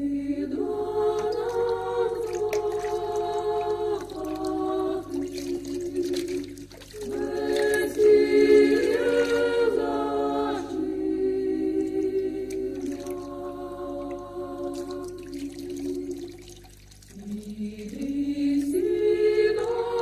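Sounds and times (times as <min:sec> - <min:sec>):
voices singing a cappella: 0:00.0 - 0:16.6, 0:17.2 - 0:20.0.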